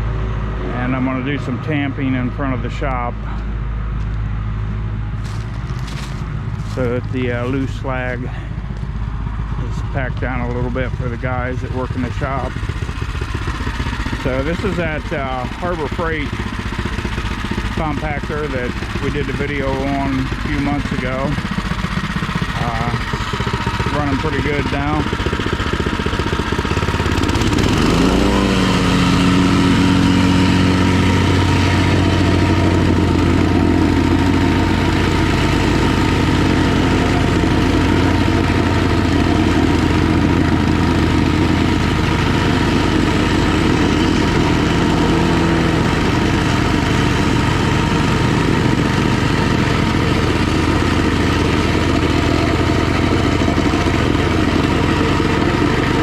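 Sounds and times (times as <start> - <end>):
plate compactor engine running: 0.0 - 56.0
compactor tamping slag: 9.9 - 56.0.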